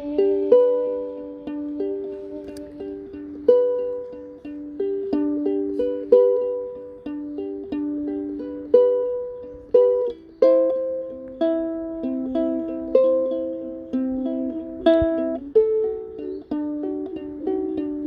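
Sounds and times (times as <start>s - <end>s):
ukulele melody: 0.0s - 18.0s.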